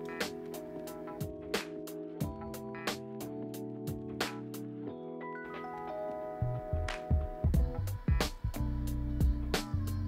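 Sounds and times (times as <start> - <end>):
music with bass and drum beat: 0.0 - 4.7, 6.4 - 10.0.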